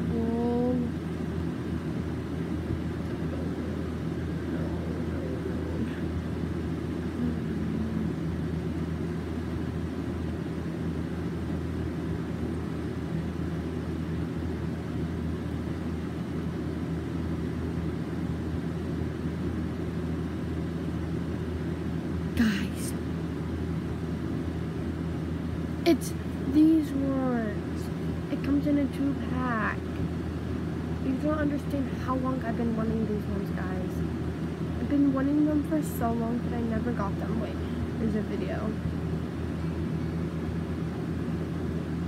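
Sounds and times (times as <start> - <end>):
constant hum: 0.0 - 42.0
steady low rumble: 0.0 - 42.0.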